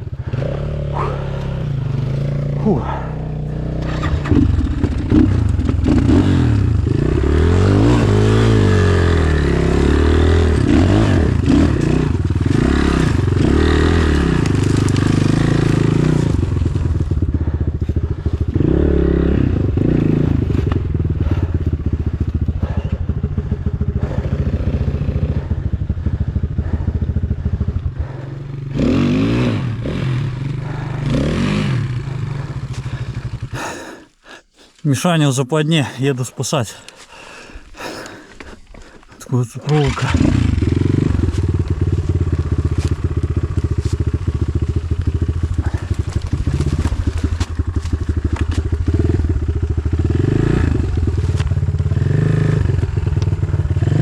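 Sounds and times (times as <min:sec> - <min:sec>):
motorcycle engine revving: 0:00.0 - 0:34.4, 0:39.7 - 0:54.0.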